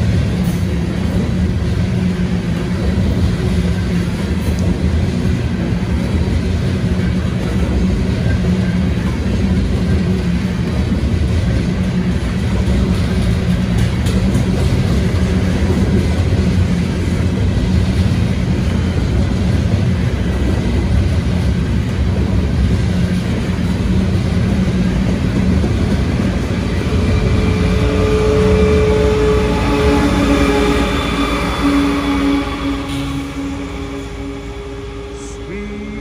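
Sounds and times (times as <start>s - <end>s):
diesel locomotive engine hum: 0.0s - 36.0s
train wheels clattering on rails: 0.0s - 36.0s.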